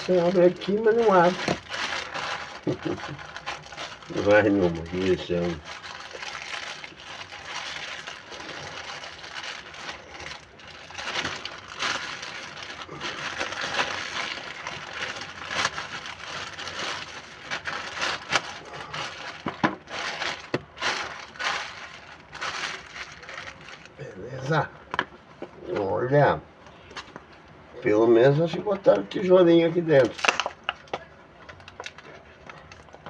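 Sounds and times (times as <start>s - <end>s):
packaging rustling: 0.0s - 24.0s, 29.9s - 33.0s.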